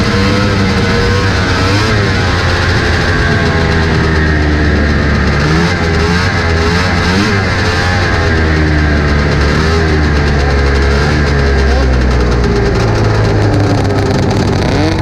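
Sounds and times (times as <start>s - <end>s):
other snowmobile engines: 0.0s - 15.0s
snowmobile engine revving: 0.0s - 15.0s
wind rush: 0.0s - 15.0s.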